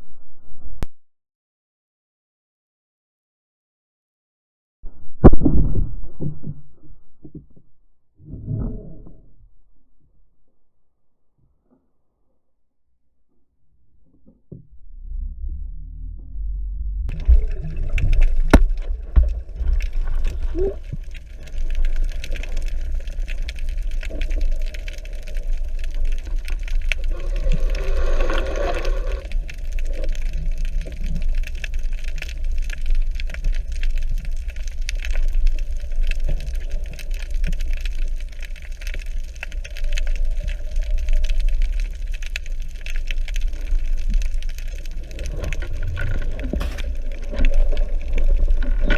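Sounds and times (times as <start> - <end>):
underwater low rumble: 4.8 - 48.9.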